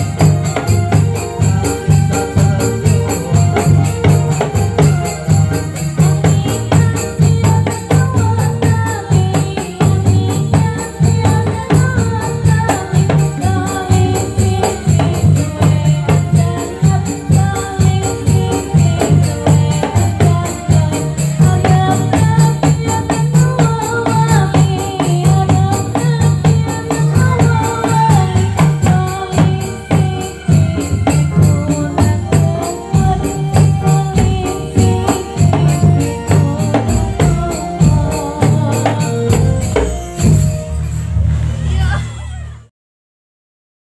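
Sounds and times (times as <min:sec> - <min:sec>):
frame drums beating: 0:00.0 - 0:42.6
person singing melody: 0:00.0 - 0:42.7.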